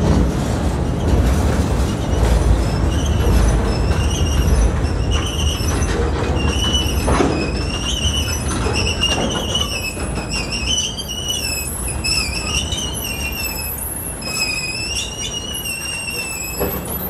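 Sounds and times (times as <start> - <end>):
freight cars rumbling: 0.0 - 17.0
wheel-on-rail squeals: 0.1 - 17.0.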